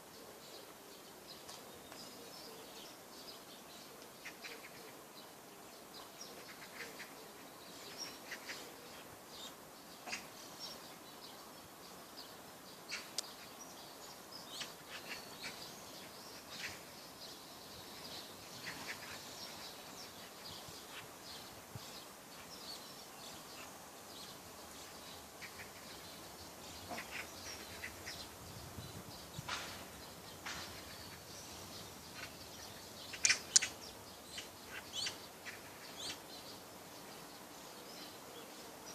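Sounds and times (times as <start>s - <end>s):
birds chirping: 0.0s - 38.9s
steady background hiss: 0.0s - 38.9s.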